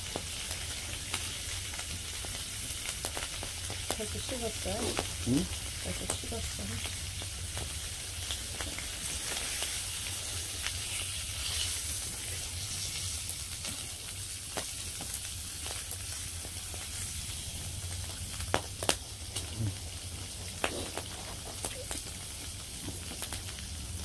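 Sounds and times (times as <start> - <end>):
bacon sizzling in a pan: 0.0 - 24.0.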